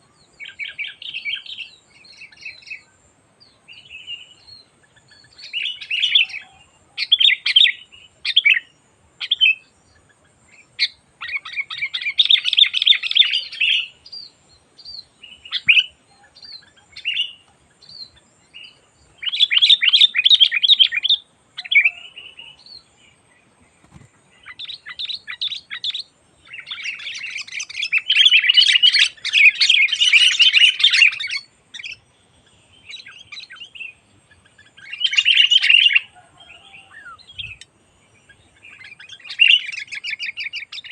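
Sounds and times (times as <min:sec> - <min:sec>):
bird chattering and singing: 0:03.7 - 0:40.9.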